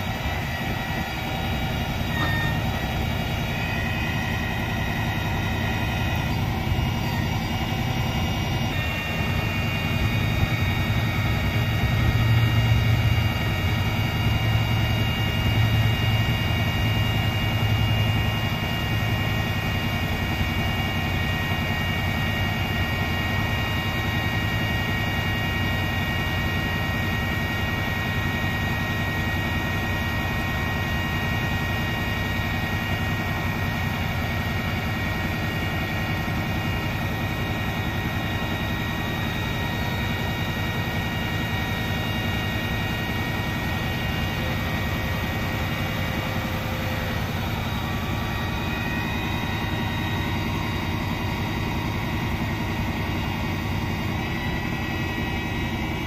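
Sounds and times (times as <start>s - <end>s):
diesel truck engine rumble: 0.0s - 24.5s, 29.5s - 56.0s
high engine whine: 0.0s - 56.0s.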